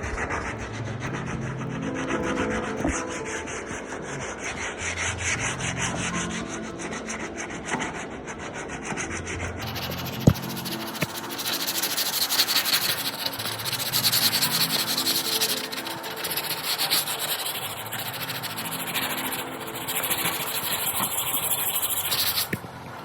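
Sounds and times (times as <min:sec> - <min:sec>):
sanding block rasping on filler: 0:00.0 - 0:22.6.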